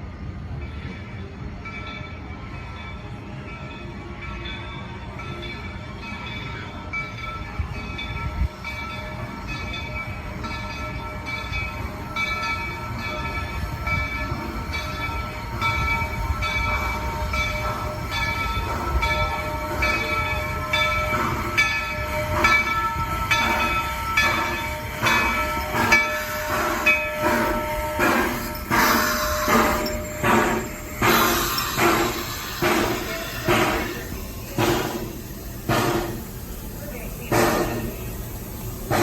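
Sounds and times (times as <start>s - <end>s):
steam locomotive running: 0.0s - 39.0s.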